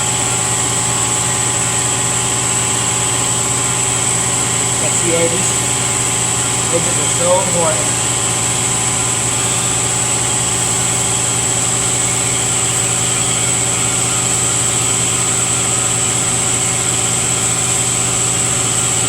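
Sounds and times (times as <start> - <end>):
high whine: 0.0 - 19.0
shop equipment machine hum: 0.0 - 19.0.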